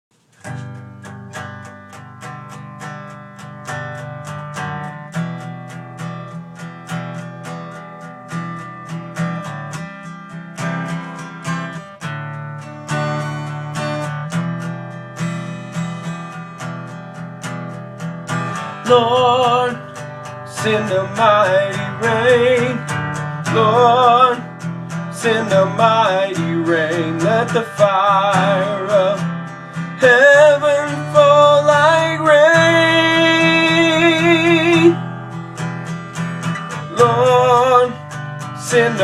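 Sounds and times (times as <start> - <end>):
acoustic guitar strumming: 0.1 - 39.0.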